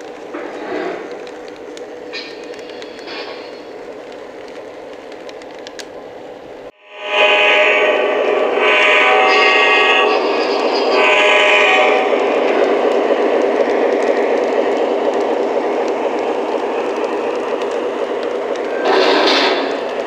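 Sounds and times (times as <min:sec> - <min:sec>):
model train running on track: 0:00.0 - 0:20.0.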